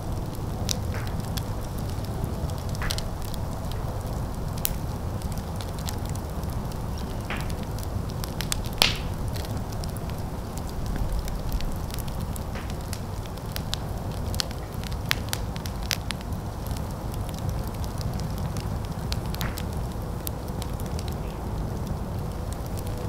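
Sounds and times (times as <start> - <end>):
open fire crackling: 0.0 - 23.0.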